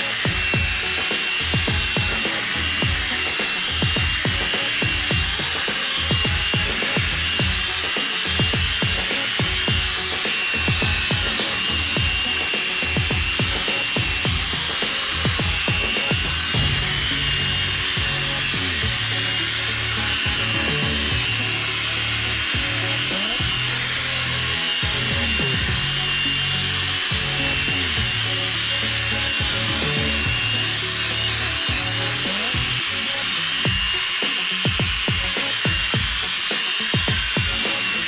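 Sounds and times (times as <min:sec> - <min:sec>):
electric drill polishing plastic: 0:00.0 - 0:38.0.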